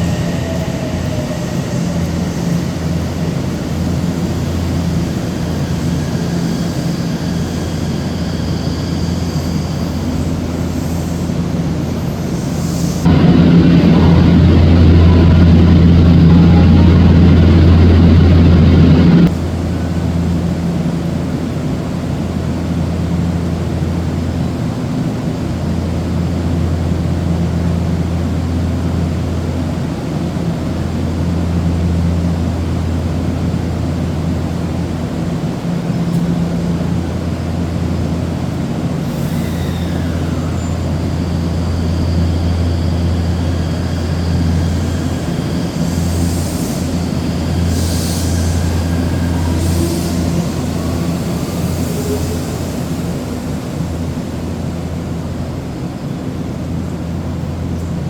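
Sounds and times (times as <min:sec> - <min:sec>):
electric train humming: 0:00.0 - 0:58.0.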